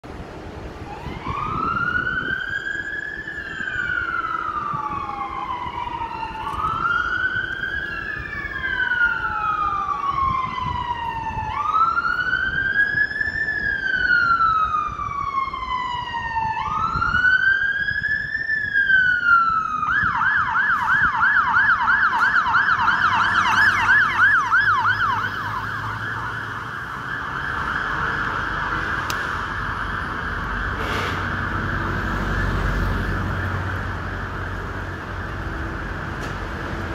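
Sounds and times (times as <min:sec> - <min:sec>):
low city traffic: 0:00.0 - 0:36.9
fire engine siren: 0:00.6 - 0:36.9.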